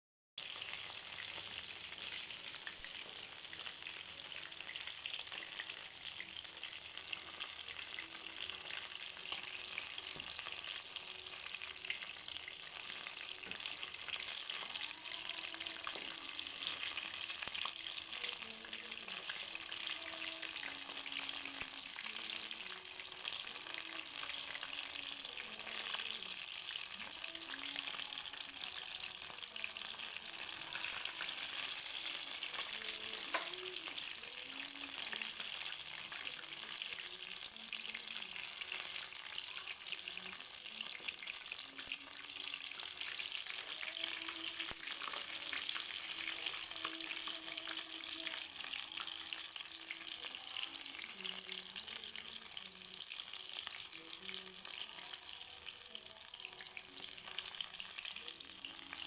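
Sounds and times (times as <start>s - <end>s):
food deep-frying in oil: 0.4s - 59.0s.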